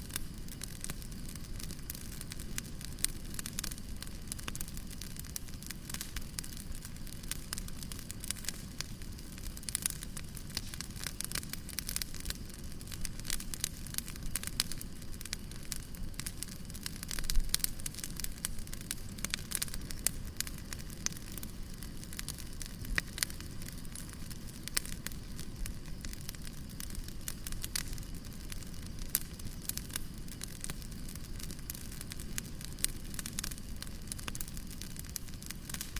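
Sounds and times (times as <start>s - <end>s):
low rumble of flame: 0.0s - 35.9s
wood crackling and popping: 0.0s - 35.9s.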